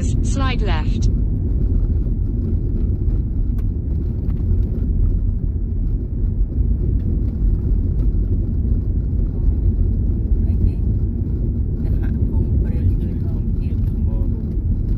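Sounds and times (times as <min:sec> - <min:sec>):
car engine and tyres rumbling: 0:00.0 - 0:14.9
faint ticks from road: 0:01.2 - 0:14.9.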